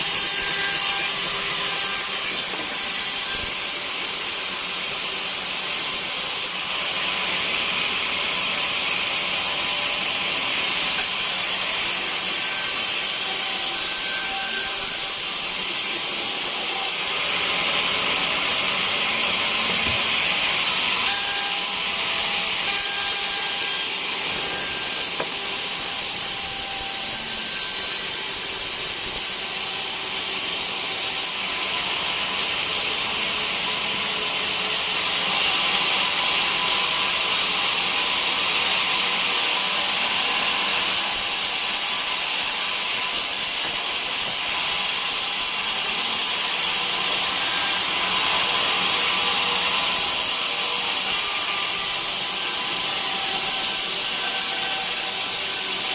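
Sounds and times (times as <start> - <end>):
bandsaw blade cutting log: 0.0 - 55.9.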